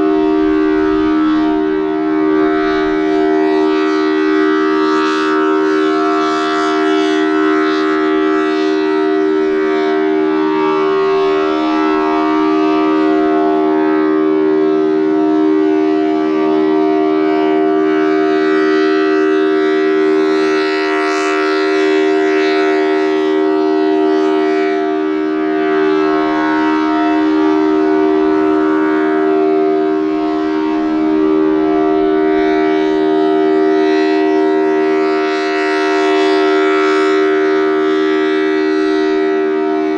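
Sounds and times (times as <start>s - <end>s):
tornado siren two-tone chord: 0.0s - 39.9s.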